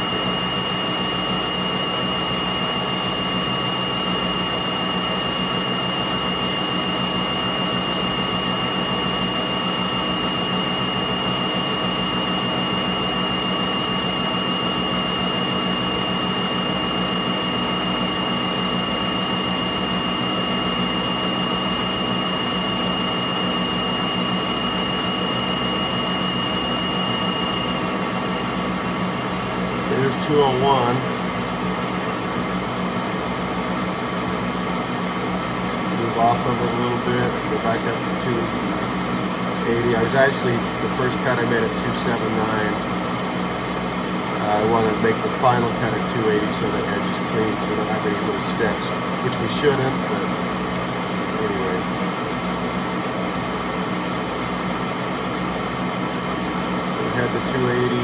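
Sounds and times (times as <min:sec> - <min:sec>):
metal lathe running: 0:00.0 - 0:58.0
steady high whine: 0:00.0 - 0:58.0.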